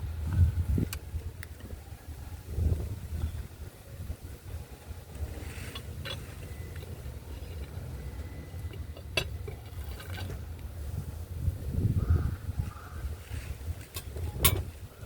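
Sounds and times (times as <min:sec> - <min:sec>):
wind rumble on microphone: 0:00.0 - 0:06.7, 0:07.3 - 0:15.0.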